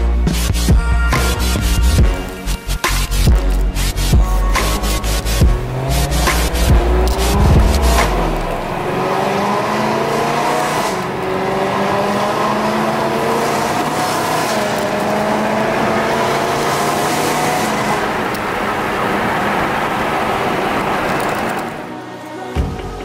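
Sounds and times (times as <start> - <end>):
car engine accelerating: 1.4 - 22.0.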